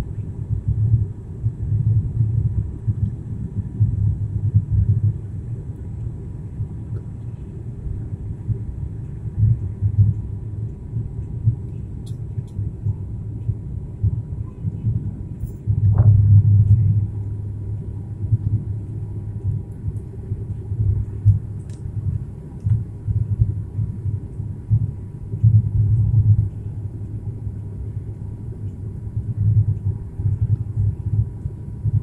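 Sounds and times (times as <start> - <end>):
airliner engines droning in cabin: 0.0 - 32.0.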